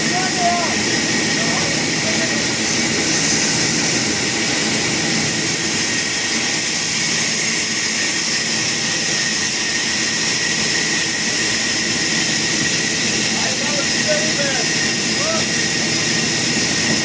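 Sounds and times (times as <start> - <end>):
sawmill saw whining: 0.0 - 17.0.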